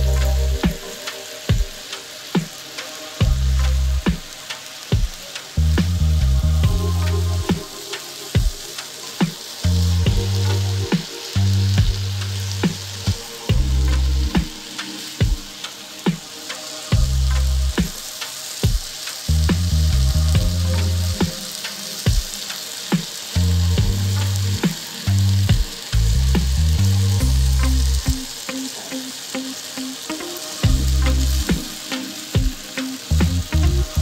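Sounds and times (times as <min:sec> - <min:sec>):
music with heavy bass line: 0:00.0 - 0:29.1, 0:29.9 - 0:34.0
noodles sizzling in a frying pan: 0:00.0 - 0:34.0.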